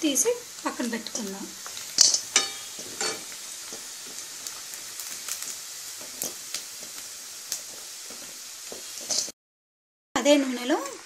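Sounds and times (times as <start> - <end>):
chicken deep-frying in oil: 0.0 - 9.4, 10.2 - 11.0.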